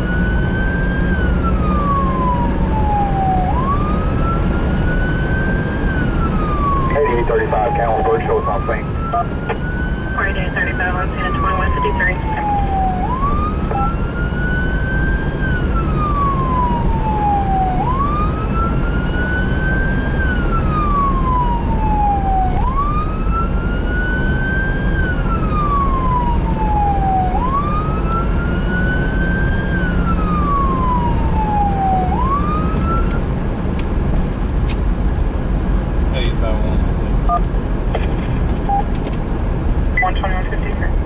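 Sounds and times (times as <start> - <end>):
emergency siren wailing: 0.0 - 33.5
vehicle rumble: 0.0 - 41.0.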